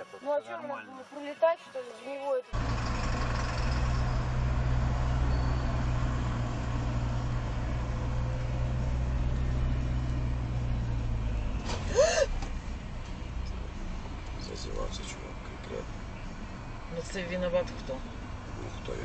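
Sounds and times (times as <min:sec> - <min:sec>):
car engine drone: 0:02.6 - 0:19.0.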